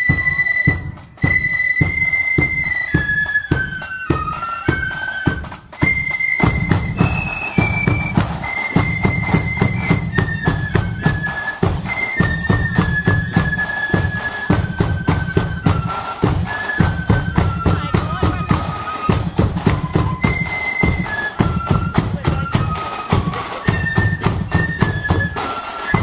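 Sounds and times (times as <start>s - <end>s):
flutes playing melody: 0.0s - 26.0s
marching drumbeats: 0.0s - 26.0s.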